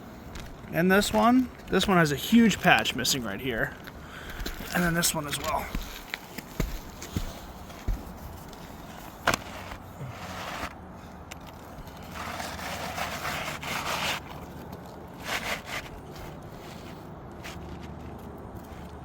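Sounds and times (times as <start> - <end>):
scraping on shingle roof: 0.2 - 19.0.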